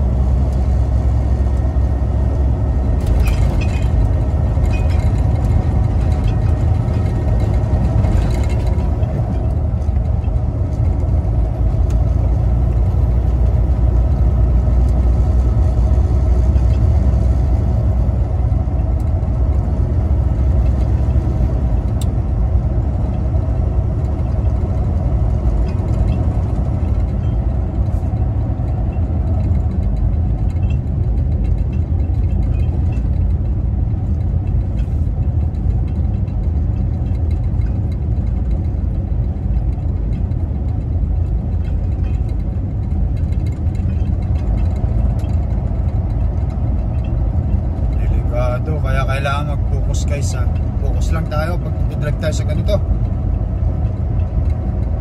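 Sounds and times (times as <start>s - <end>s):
truck diesel engine drone: 0.0s - 55.0s
tyre noise on road: 0.0s - 55.0s.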